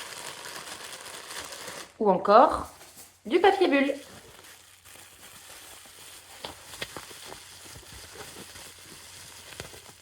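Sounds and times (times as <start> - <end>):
bubble wrap popping: 0.0 - 10.0
faint crinkling: 0.0 - 10.0.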